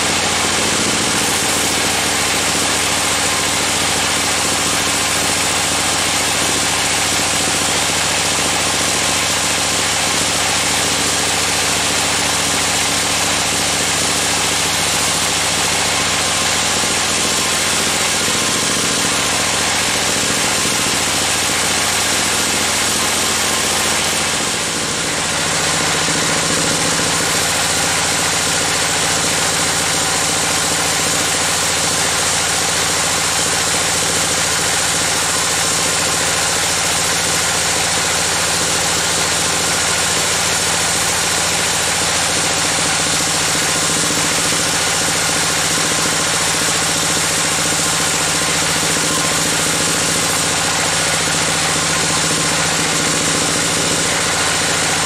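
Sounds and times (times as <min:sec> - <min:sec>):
band saw cutting timber: 0:00.0 - 0:55.0
saw drive hum: 0:00.0 - 0:55.0.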